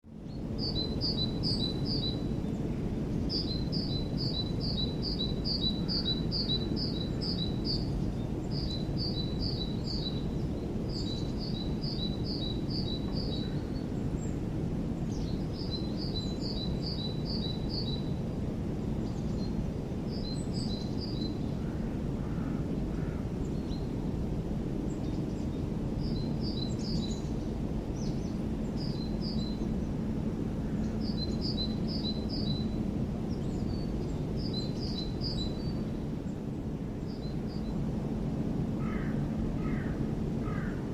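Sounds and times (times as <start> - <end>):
low background rumble: 0.1 - 40.9.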